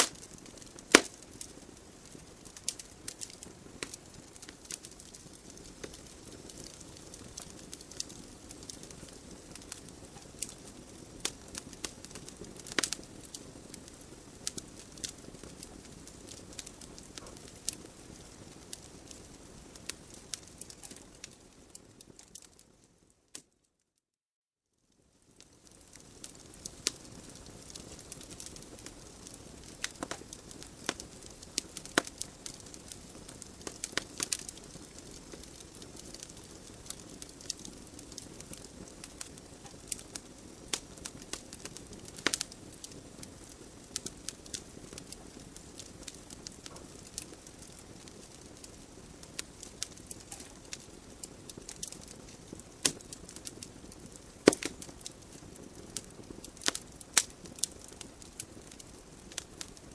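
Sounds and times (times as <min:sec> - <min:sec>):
hiss of flames: 0:00.0 - 0:22.2, 0:25.2 - 0:59.9
logs crackling and popping: 0:00.0 - 0:23.6, 0:25.1 - 0:59.9.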